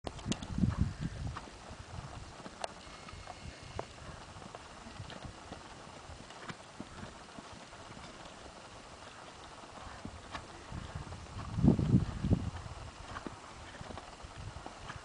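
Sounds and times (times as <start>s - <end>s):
hoofbeats on sand: 0.2s - 15.0s.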